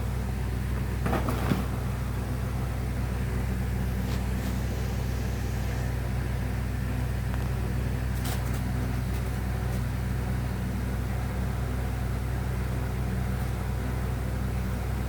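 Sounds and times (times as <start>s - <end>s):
low electrical motor hum: 0.0s - 15.0s.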